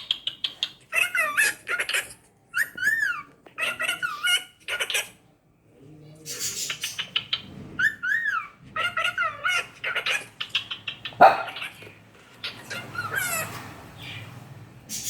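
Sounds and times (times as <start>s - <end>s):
cockatiels chattering: 0.0s - 5.2s, 6.2s - 14.3s.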